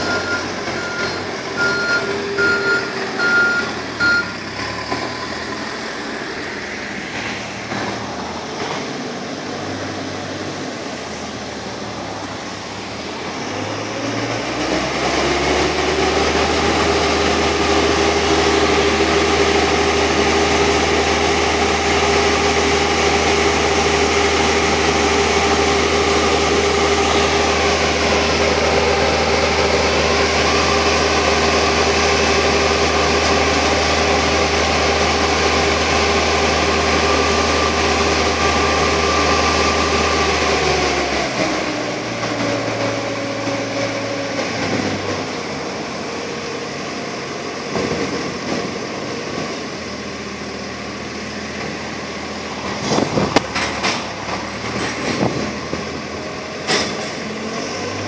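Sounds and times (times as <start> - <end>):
diesel engine with whine: 0.0 - 58.0.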